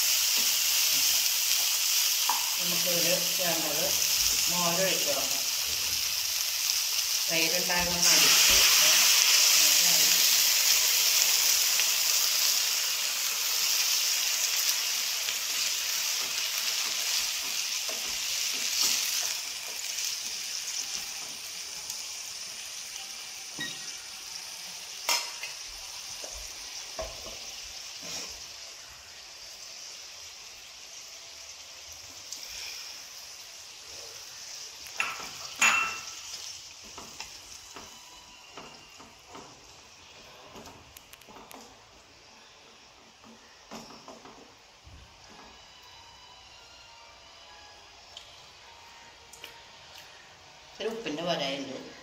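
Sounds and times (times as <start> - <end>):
loud sizzle in hot pan: 0.0 - 52.0.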